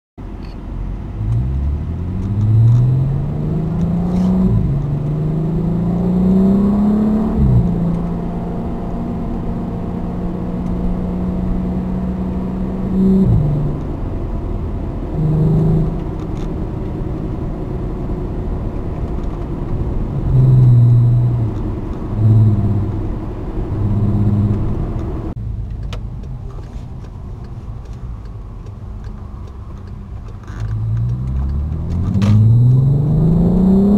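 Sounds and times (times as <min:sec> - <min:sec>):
car engine revving through gears: 0:01.1 - 0:25.4, 0:29.7 - 0:33.9.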